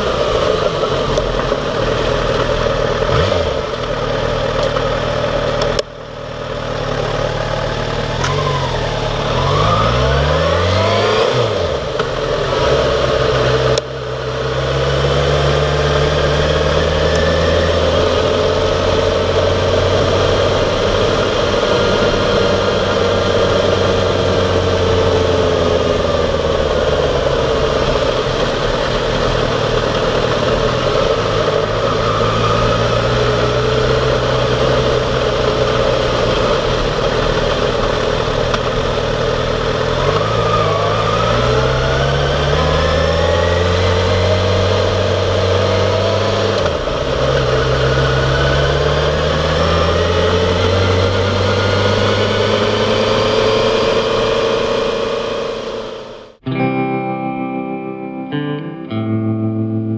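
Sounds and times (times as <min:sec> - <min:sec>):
motorcycle engine running: 0:00.0 - 0:56.6.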